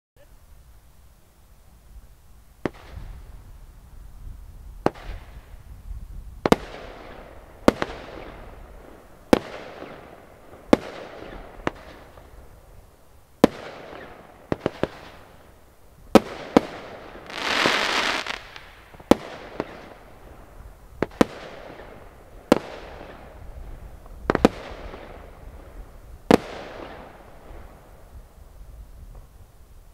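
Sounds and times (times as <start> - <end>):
firework bangs with hiss: 2.6 - 3.5, 4.7 - 12.8, 13.4 - 29.9.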